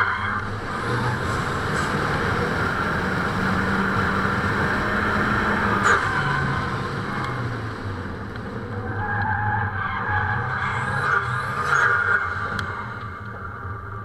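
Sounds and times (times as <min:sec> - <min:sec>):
car engine revving while drifting: 0:00.0 - 0:14.0.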